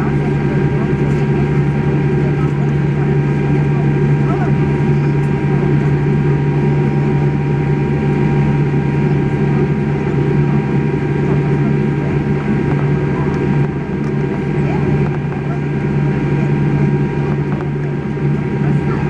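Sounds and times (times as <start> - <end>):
aircraft cabin hum: 0.0 - 19.0.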